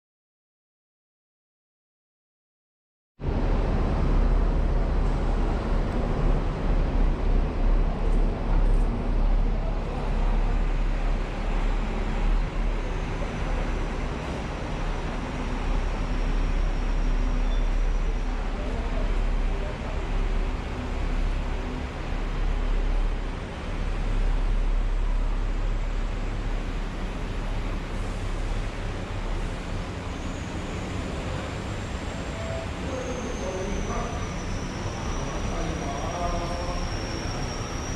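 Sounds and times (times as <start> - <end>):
dense wash of noise: 3.2 - 37.9
low engine rumble: 3.2 - 37.9.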